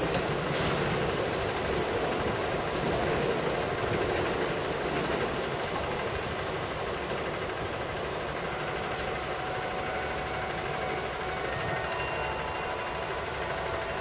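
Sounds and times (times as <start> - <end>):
diesel railcar engine rumbling: 0.0 - 14.0.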